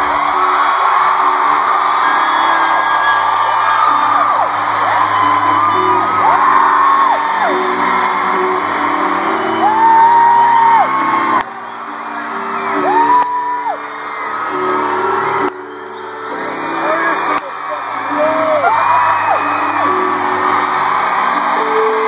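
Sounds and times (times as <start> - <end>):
crowd whooping: 0.0 - 22.0.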